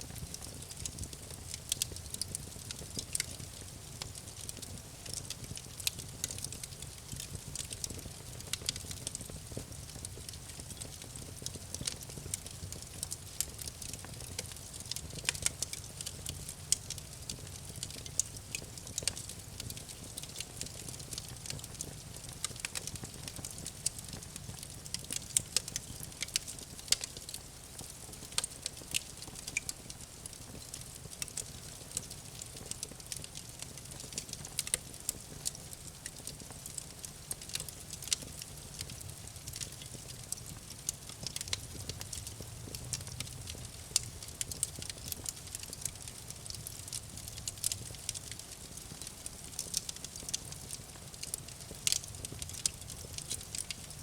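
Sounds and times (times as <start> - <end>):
campfire crackling and popping: 0.0 - 54.0
low rumble of flames: 0.1 - 54.0.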